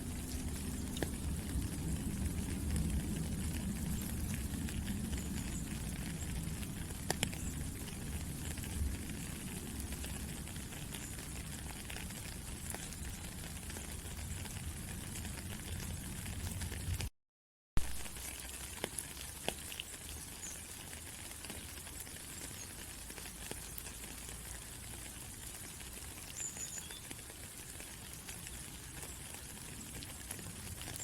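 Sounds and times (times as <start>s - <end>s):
rain drop ticks: 0.0s - 17.1s, 17.8s - 31.0s
steady rain falling: 0.0s - 17.1s, 17.8s - 31.0s.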